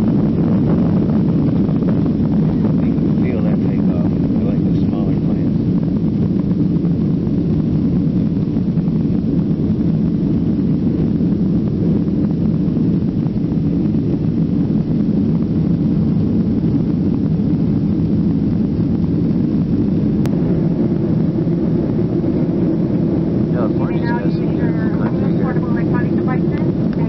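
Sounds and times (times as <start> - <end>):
jet cabin engine rumble: 0.0 - 27.0.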